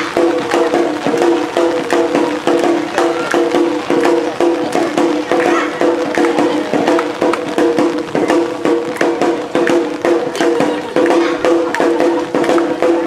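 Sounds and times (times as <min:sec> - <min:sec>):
drums beating: 0:00.0 - 0:13.0.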